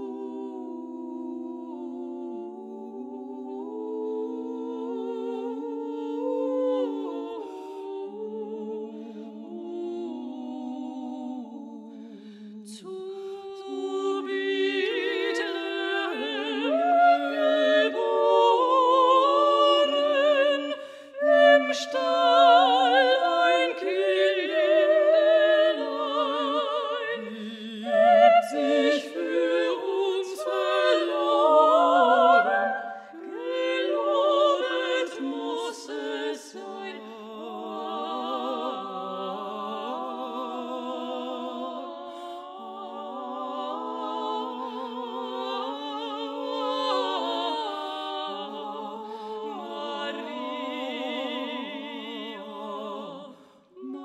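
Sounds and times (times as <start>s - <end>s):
women singing in close harmony: 0.0s - 54.0s.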